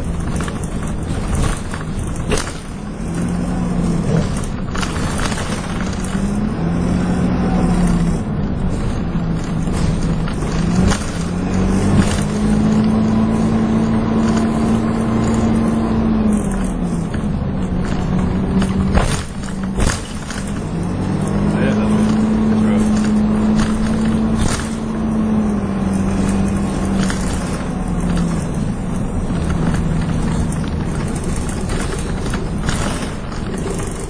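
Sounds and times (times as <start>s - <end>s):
bus body rattles and clicks: 0.0s - 34.0s
bus engine pulling through gears: 0.0s - 34.0s.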